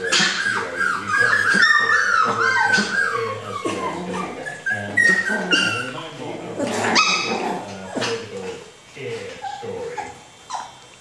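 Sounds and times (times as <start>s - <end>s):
puppies whimpering and yipping: 0.0s - 8.6s, 9.3s - 11.0s.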